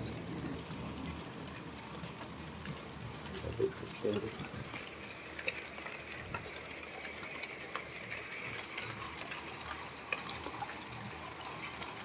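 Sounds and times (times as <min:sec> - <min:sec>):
rain hissing: 0:00.0 - 0:12.0
raindrops tapping hard surfaces: 0:00.0 - 0:12.0.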